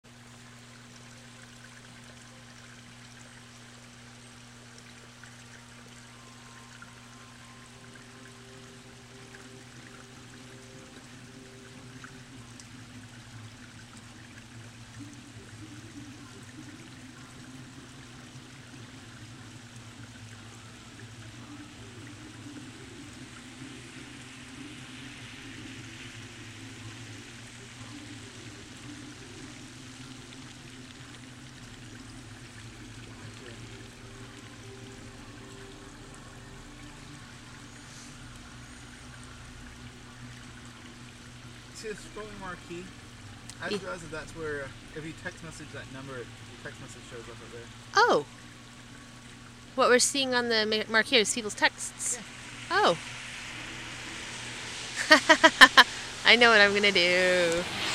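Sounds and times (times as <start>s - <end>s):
low steady hum: 0.0s - 57.9s
steady rain falling: 0.0s - 57.9s.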